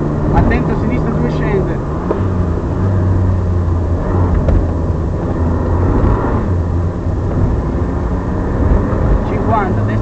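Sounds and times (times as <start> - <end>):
car engine running hard: 0.0 - 10.0
road and tyre noise: 0.0 - 10.0.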